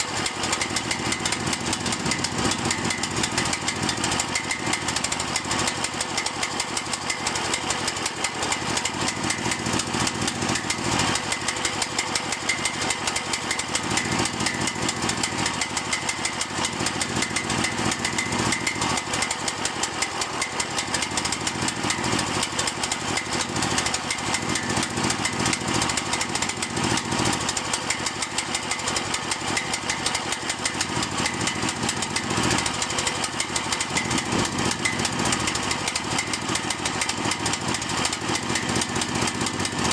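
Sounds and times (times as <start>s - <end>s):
excavator engine idling roughly: 0.0s - 39.9s.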